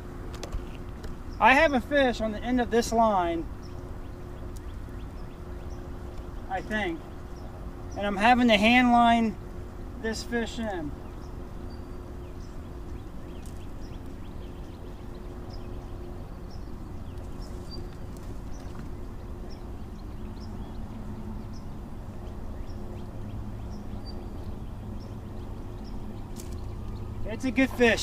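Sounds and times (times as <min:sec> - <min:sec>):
faint hum: 0:00.0 - 0:28.0
low outdoor rumble: 0:00.0 - 0:28.0.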